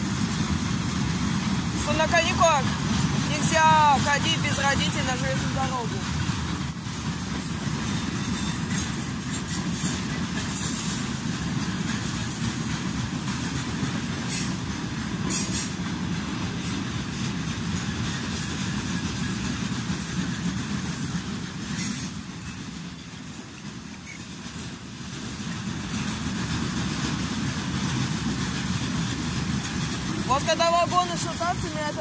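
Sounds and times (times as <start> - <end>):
train wagons rumbling past: 0.0 - 32.0.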